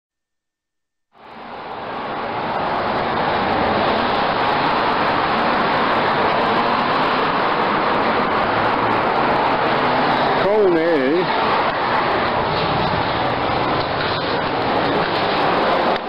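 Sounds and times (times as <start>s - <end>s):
road traffic noise: 1.2s - 16.0s.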